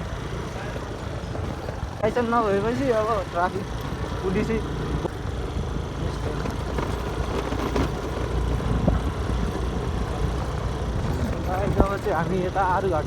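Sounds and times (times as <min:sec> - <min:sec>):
road noise: 0:00.0 - 0:13.0
scooter engine running: 0:00.0 - 0:13.0.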